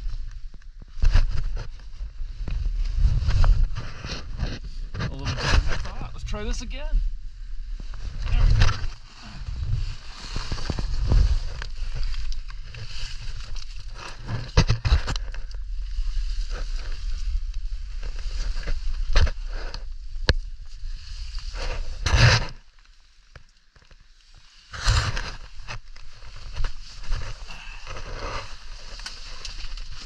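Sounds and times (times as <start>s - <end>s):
clothing rubbing against rock: 0.0s - 22.7s, 24.3s - 30.0s
crawling over rock and gravel: 0.0s - 22.8s, 23.8s - 30.0s.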